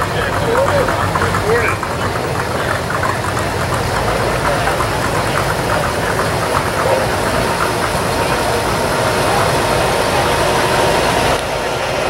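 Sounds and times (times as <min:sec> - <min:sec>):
car engine idling: 0:00.0 - 0:12.0
other car engines running: 0:00.0 - 0:12.0.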